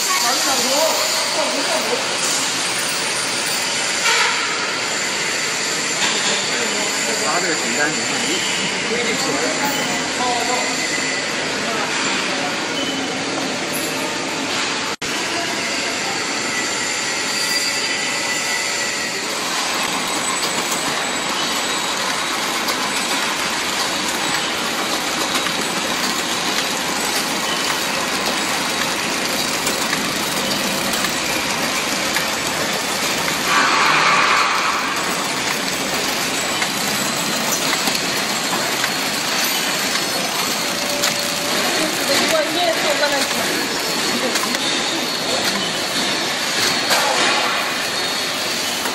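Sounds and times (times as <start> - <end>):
packing machine clatter and hiss: 0.0 - 10.7, 11.5 - 48.9.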